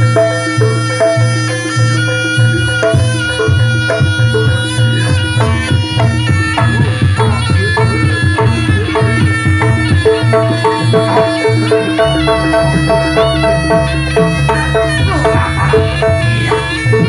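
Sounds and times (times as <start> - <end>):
driving drum pulse: 0.0 - 17.0
gamelan ensemble music: 0.0 - 17.0.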